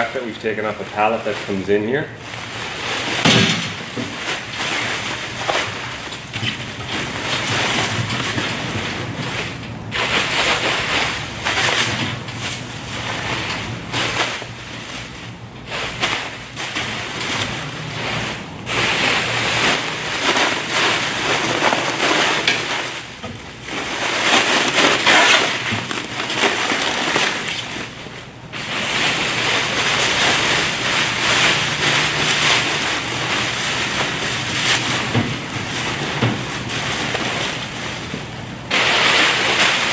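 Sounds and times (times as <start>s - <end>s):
plastic wrap rustling and crinkling: 0.0s - 39.9s.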